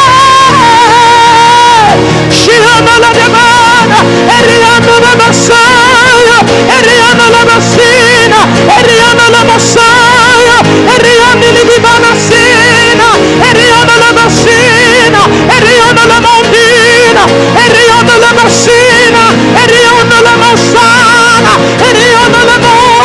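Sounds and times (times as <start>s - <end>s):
sustained backing chords: 0.0s - 23.0s
worship music melody: 0.0s - 23.0s.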